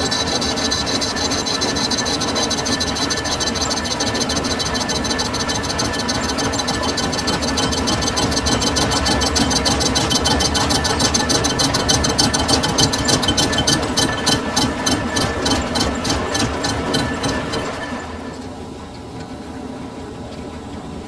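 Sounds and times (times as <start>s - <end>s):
rapid even ticking: 0.0s - 18.0s
metal lathe humming: 0.0s - 19.3s.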